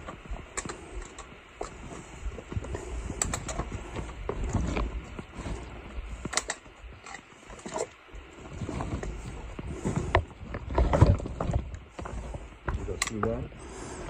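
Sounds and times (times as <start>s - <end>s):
low rumble of movement: 0.0s - 14.0s
trekking poles and boots on rock: 0.0s - 14.0s.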